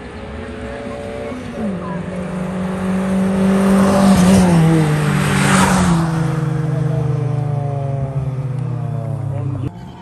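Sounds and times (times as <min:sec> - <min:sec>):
drag racing car passing: 0:00.0 - 0:10.0.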